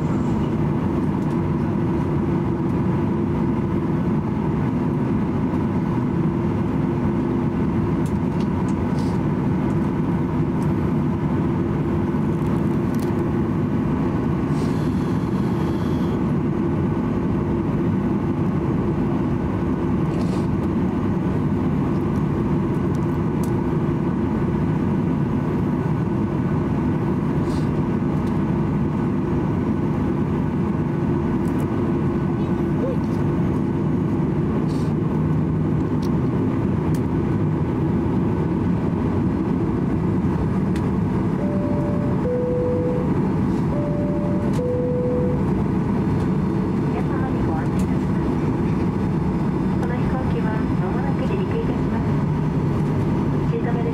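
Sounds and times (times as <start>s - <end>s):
aircraft cabin engine hum: 0.0s - 53.9s.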